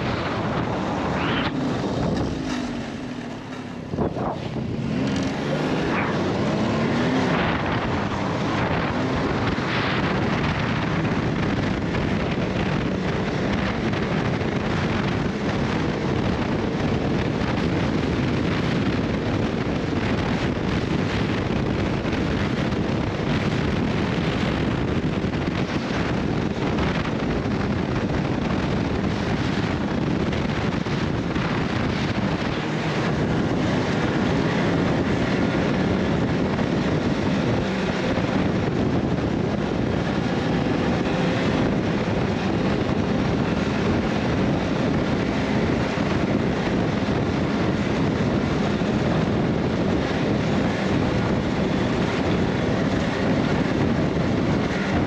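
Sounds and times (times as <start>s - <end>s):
vehicle rumble: 0.0s - 55.0s
wind on microphone: 0.0s - 55.0s.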